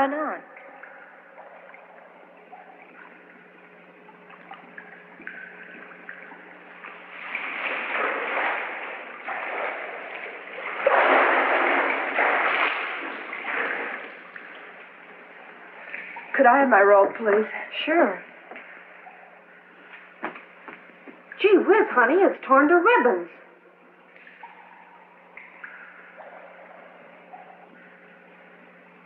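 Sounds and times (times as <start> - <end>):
water splashing and sloshing: 0.0 - 22.1, 23.5 - 29.0
steady low hum: 0.0 - 29.0.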